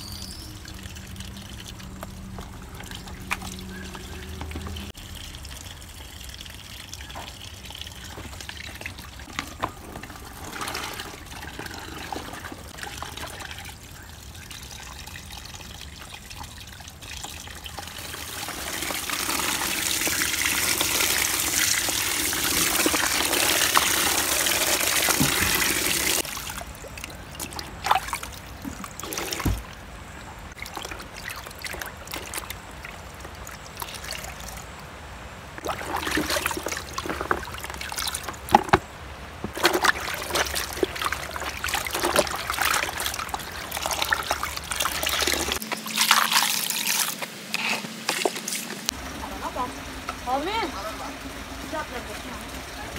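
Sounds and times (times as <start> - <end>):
water splashing and sloshing: 0.0 - 52.9
tap water running into bucket: 0.2 - 29.8, 30.6 - 34.8, 35.6 - 52.9.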